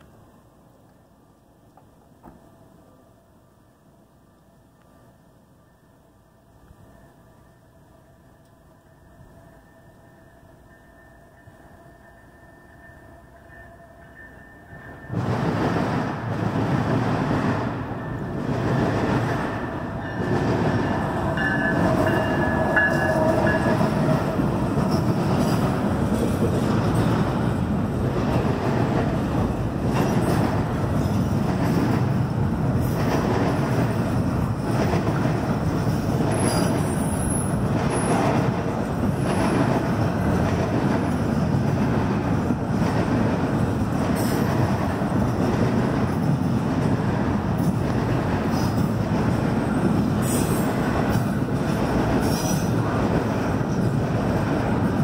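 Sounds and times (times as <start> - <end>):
freight train rumble and rattle: 8.8 - 55.0.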